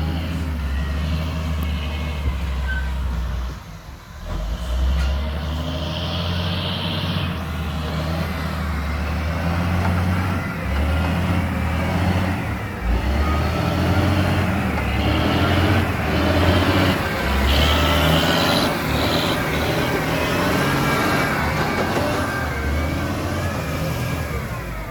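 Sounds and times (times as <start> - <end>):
diesel machinery engine drone: 0.0 - 24.9.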